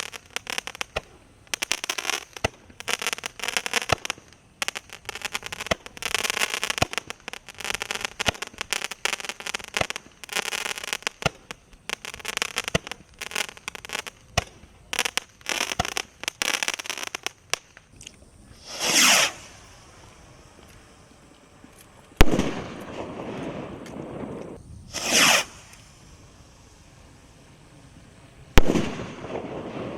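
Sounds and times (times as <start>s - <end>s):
firework sweeping whoosh: 0.0s - 29.9s
fireworks shots with crackle: 0.0s - 29.9s.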